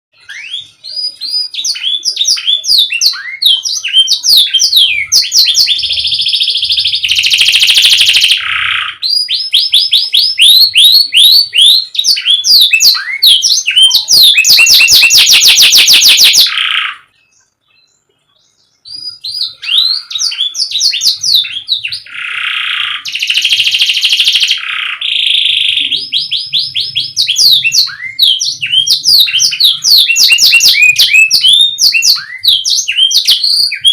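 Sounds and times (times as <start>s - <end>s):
canary singing: 0.2s - 33.9s.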